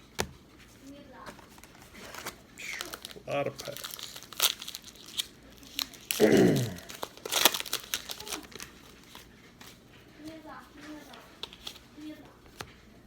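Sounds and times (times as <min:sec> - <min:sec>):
wrappers crinkling and tearing: 0:01.3 - 0:12.0.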